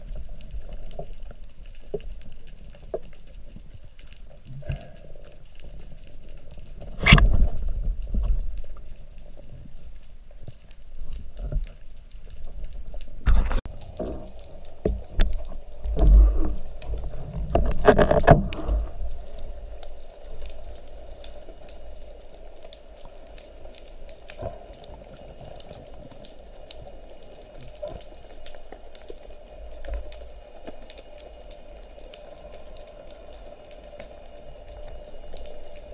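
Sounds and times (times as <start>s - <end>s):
underwater rushing and bubbling: 0.0s - 35.9s.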